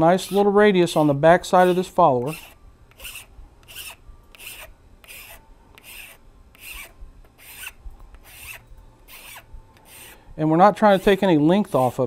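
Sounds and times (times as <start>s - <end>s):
hand file rasping on plastic: 0.2s - 10.2s, 10.8s - 12.0s.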